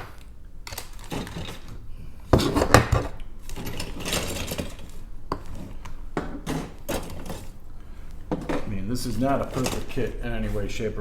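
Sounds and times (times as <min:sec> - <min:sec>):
plastic parts rustling and clattering: 0:00.0 - 0:10.6.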